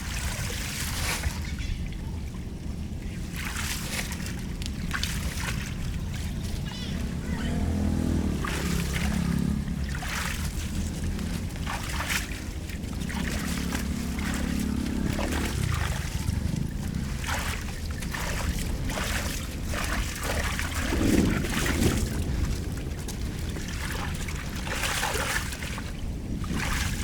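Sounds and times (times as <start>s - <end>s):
flood water splashing: 0.0s - 27.0s
steady low rumble: 0.0s - 27.0s.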